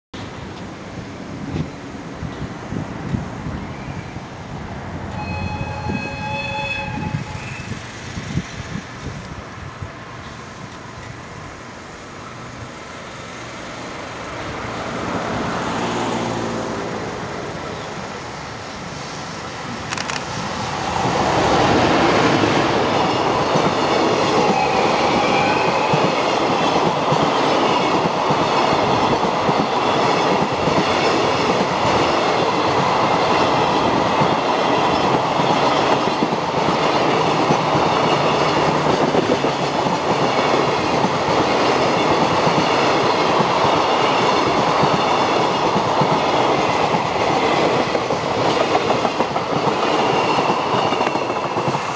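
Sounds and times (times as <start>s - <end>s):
freight train rumbling past: 0.2s - 51.9s.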